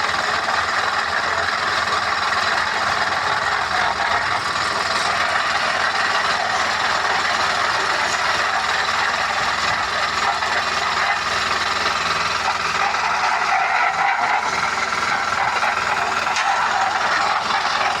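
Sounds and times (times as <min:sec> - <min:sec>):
construction machinery running: 0:00.0 - 0:18.0.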